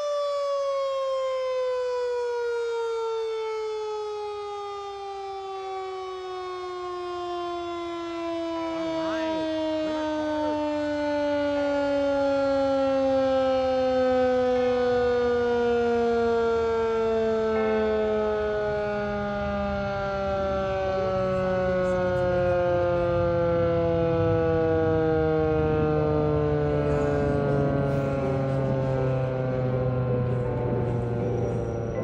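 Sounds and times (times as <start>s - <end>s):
warning siren winding down: 0.0s - 32.0s.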